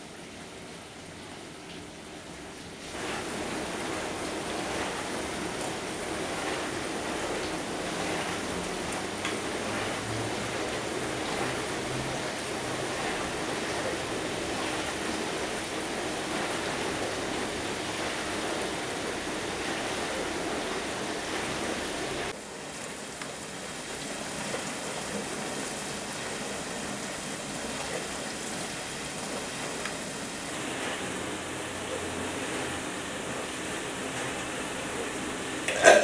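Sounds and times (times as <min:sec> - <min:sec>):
dishwasher water spraying: 0:02.8 - 0:36.0.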